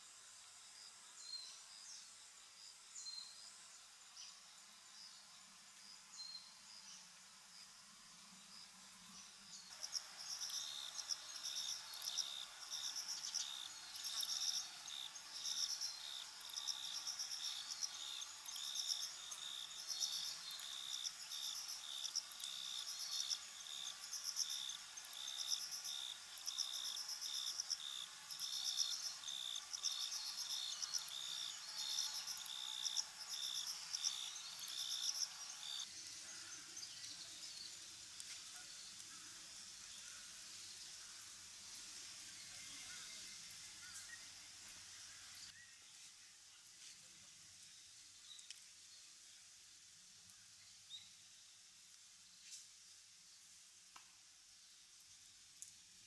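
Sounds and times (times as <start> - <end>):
insects chirping: 0.0 - 45.6.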